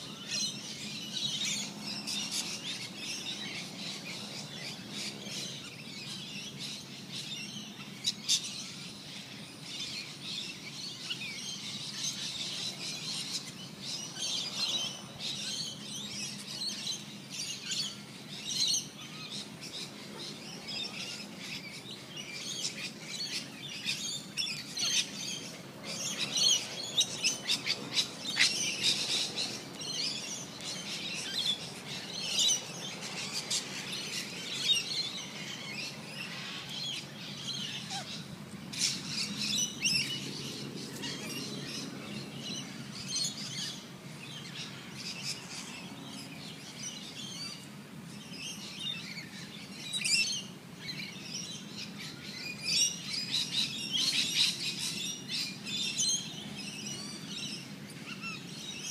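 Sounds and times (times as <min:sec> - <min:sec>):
birds chirping: 0:00.0 - 0:58.9.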